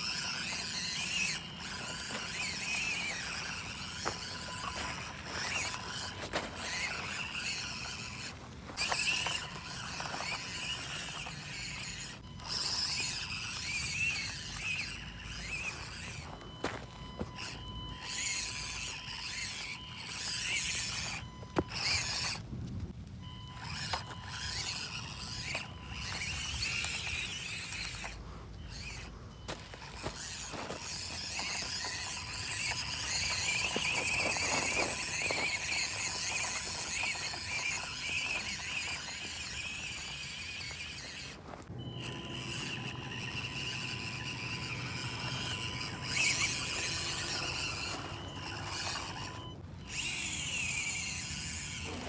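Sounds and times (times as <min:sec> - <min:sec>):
small electric motor whining: 0:00.0 - 0:52.0.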